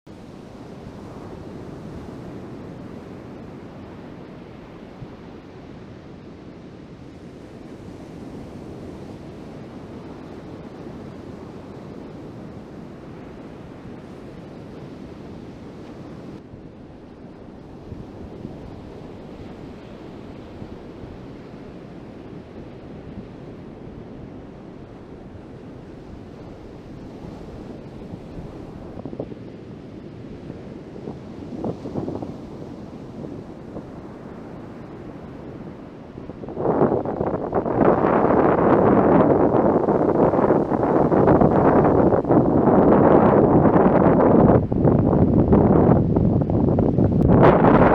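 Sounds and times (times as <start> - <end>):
ocean surf rushing: 0.1 - 47.9
wind buffeting microphone: 0.1 - 47.9.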